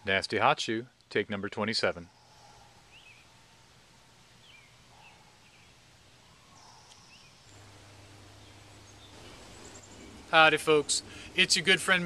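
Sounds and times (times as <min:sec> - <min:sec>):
low steady hum: 0:00.0 - 0:12.0
woodland ambience: 0:00.0 - 0:12.0.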